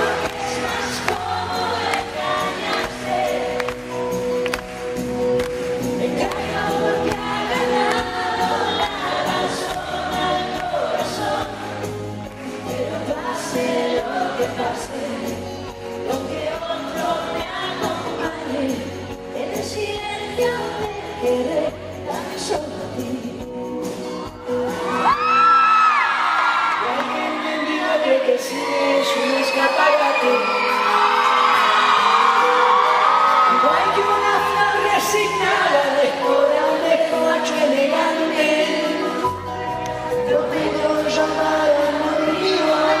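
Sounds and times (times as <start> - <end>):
man and woman singing duet: 0.0 - 4.4, 5.8 - 43.0
live band playing a ballad: 0.0 - 43.0.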